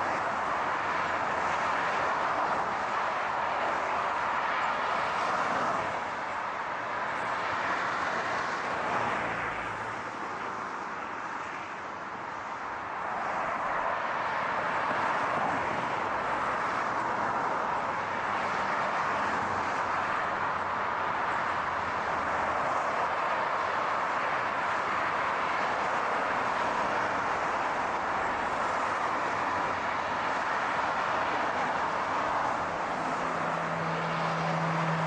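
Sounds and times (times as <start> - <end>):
tyre and road noise: 0.0 - 35.0.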